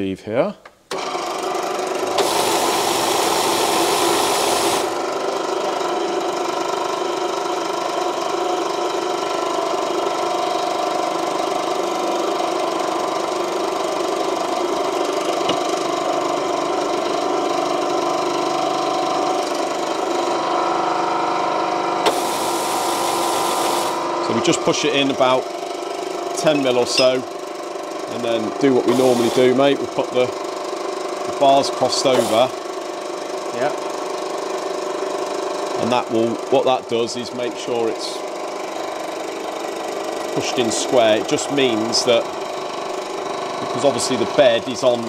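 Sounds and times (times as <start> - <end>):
hydraulic press motor humming: 0.9 - 45.0.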